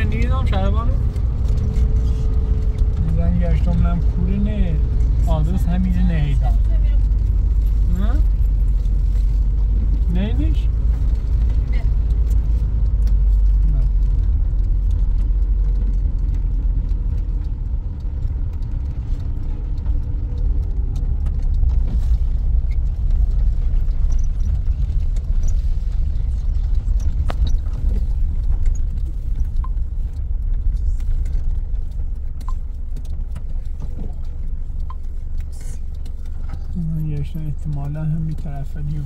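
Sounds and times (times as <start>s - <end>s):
car engine and road rumble: 0.0s - 39.0s
light rattling and clicking: 0.0s - 39.0s.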